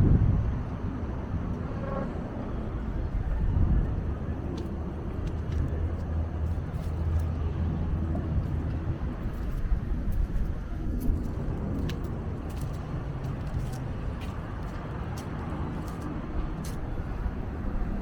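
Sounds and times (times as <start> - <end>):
passing vehicles rumbling: 0.0 - 18.0.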